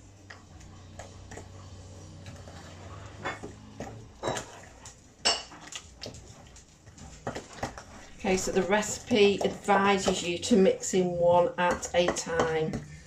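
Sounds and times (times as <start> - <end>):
wooden spoon stirring batter: 0.0 - 13.0.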